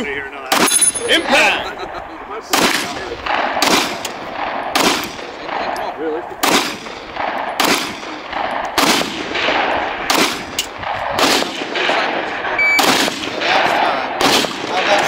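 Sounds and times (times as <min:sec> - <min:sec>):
rifle shots with echo: 0:00.5 - 0:01.4, 0:02.5 - 0:15.0.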